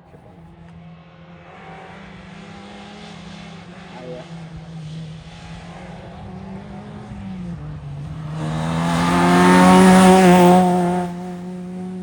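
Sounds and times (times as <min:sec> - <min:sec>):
rally car engine at speed: 0:00.0 - 0:12.0.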